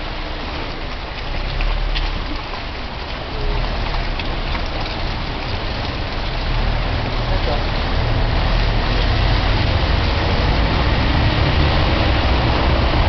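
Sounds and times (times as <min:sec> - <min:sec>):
tyres hissing on slushy street: 0:00.0 - 0:13.0.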